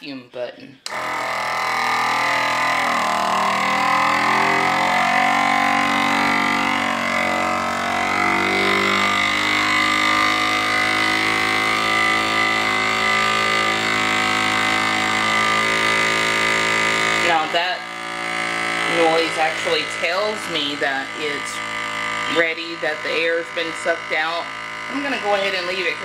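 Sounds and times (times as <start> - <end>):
vacuum sealer pump humming: 0.9 - 26.0.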